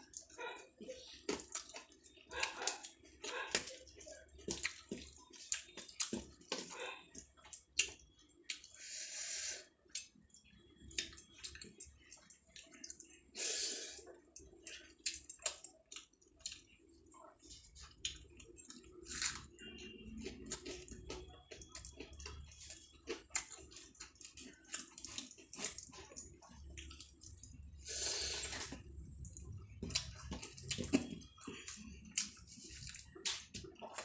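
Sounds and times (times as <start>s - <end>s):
chewing food close up: 0.0s - 9.0s, 9.6s - 34.0s.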